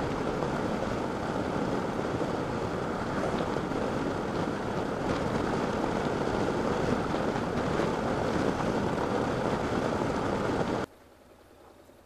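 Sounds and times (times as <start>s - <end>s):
motorcycle engine: 0.0s - 10.9s
wind rush over microphone: 0.0s - 10.9s
road noise: 0.0s - 12.0s.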